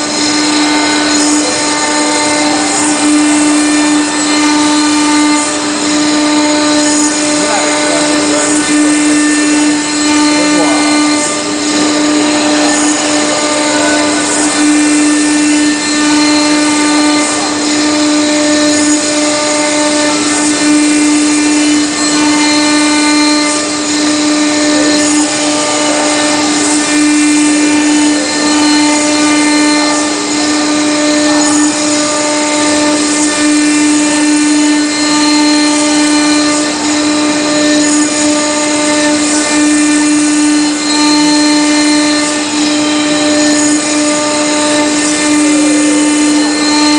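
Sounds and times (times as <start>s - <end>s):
bit grinding stone: 0.0s - 46.9s
router spindle high whine: 0.0s - 46.9s.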